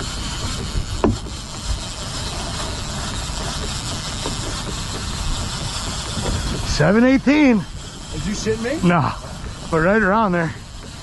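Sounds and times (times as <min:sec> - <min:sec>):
outboard engine drone: 0:00.0 - 0:11.0
water noise: 0:00.0 - 0:11.0
wind: 0:00.0 - 0:11.0.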